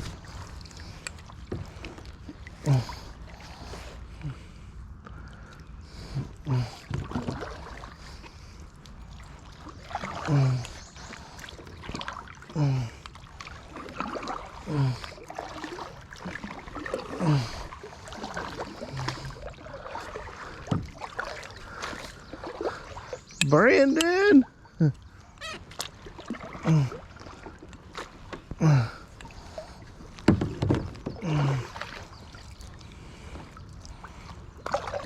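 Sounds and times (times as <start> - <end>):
kayak paddle strokes: 0.0 - 4.1, 5.9 - 24.4, 25.4 - 35.0
water washing: 5.1 - 35.0.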